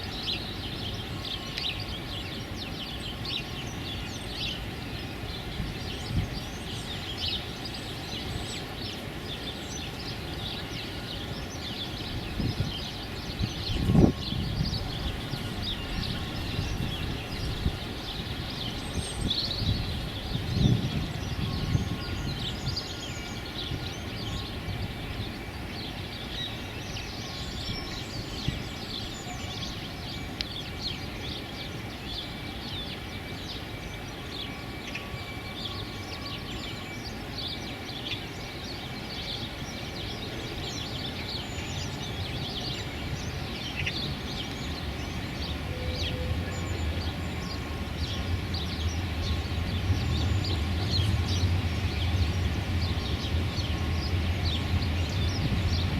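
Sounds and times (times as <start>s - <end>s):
low rumble of wind: 0.0s - 55.9s.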